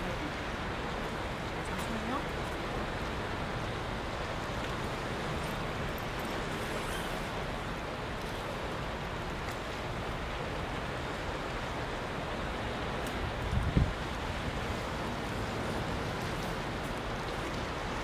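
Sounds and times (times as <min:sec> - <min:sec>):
sea surf on rocky shore: 0:00.0 - 0:18.0
wind: 0:00.0 - 0:18.0.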